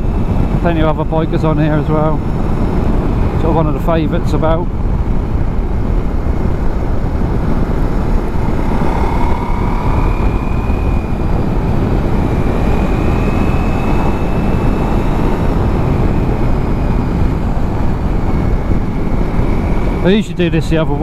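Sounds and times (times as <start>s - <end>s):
motorcycle engine running: 0.0s - 20.2s
wind rushing over microphone: 0.0s - 21.0s.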